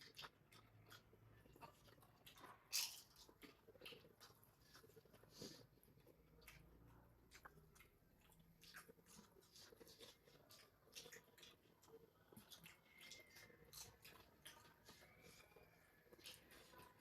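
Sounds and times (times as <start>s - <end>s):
faint chewing and mouth clicks: 0.0s - 17.0s.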